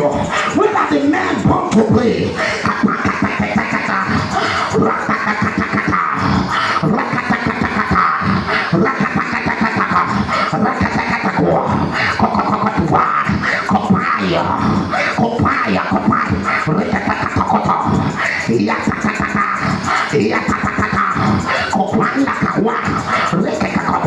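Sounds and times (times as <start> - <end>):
crowd praying aloud: 0.0 - 24.0.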